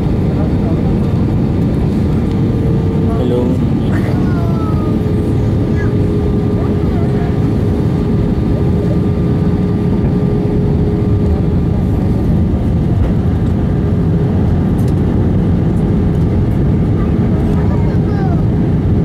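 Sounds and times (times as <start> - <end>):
airplane cabin engine noise: 0.0 - 19.0
steady hum: 0.0 - 19.0.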